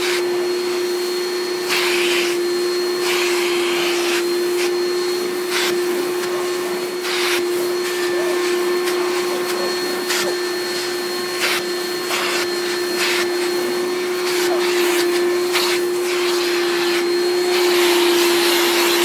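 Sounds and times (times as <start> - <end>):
vacuum cleaner motor hum: 0.0 - 19.0.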